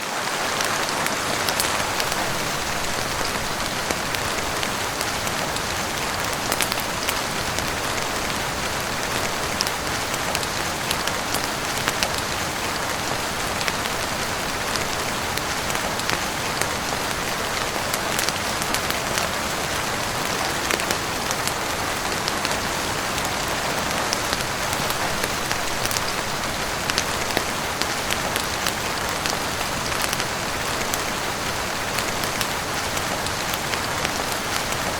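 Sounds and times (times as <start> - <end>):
heavy rain on roof: 0.0 - 34.9.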